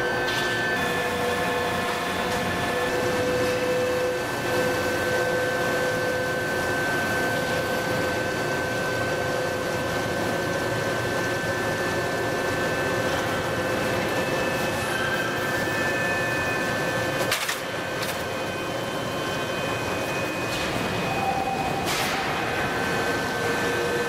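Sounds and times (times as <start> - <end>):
hydraulic press mechanical drone: 0.0 - 24.0.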